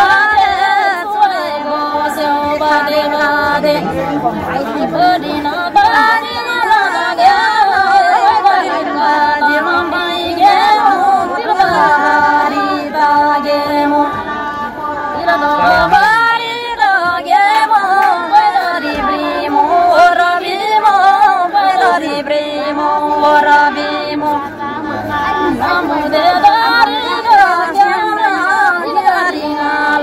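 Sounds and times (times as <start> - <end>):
women singing folk song: 0.0 - 30.0.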